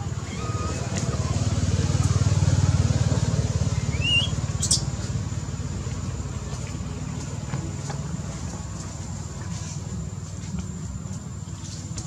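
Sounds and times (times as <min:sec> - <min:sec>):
motor running rumble: 0:00.0 - 0:12.0.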